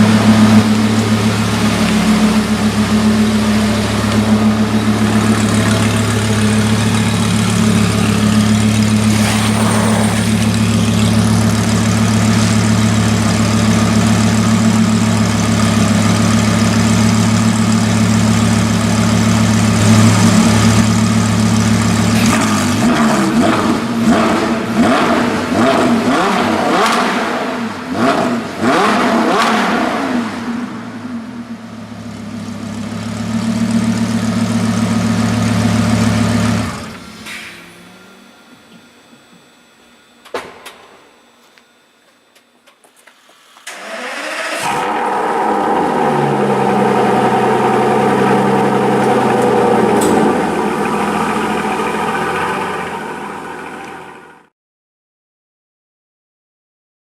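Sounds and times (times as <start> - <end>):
car engine idling and revving: 0.0 - 40.1, 43.6 - 54.5.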